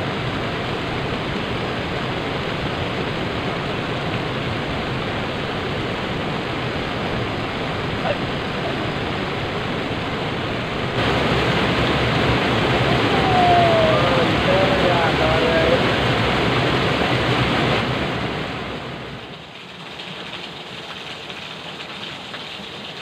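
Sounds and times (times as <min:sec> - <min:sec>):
river water rushing: 0:00.0 - 0:19.4.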